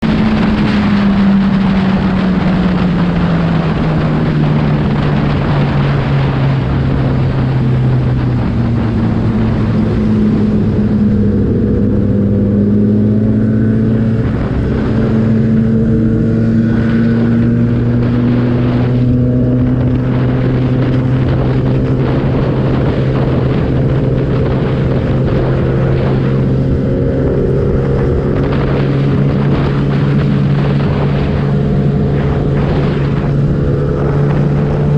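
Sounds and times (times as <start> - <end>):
motorcycle engine running: 0.0 - 34.9
wind rush and road noise: 0.0 - 34.9.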